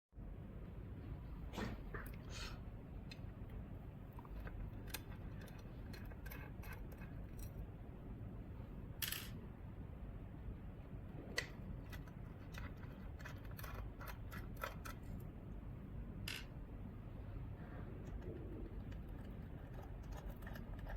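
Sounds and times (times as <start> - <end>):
low steady hum: 0.2 - 20.9.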